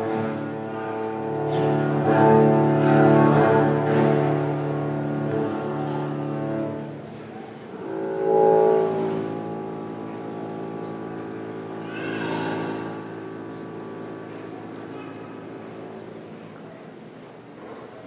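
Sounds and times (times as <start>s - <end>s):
low bowed string notes: 0.0s - 17.4s.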